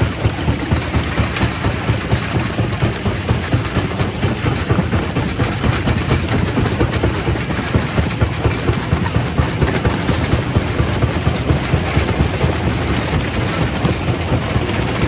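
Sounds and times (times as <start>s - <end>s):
rock crusher rumbling: 0.0s - 15.0s.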